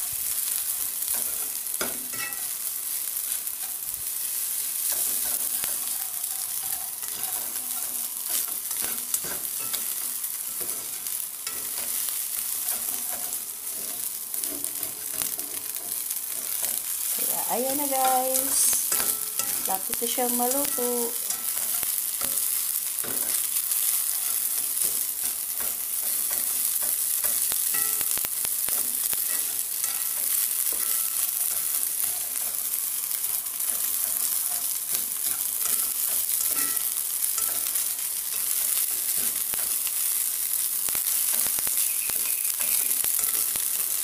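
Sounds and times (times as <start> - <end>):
rice sizzling in a wok: 0.0 - 44.0
spatula scraping a pan: 0.3 - 44.0.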